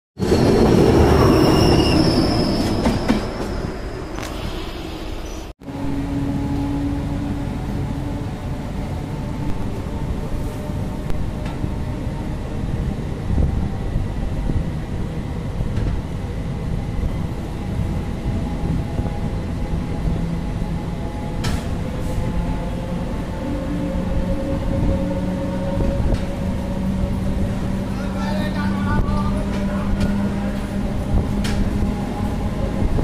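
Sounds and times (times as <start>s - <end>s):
train rumbling: 0.2s - 33.0s.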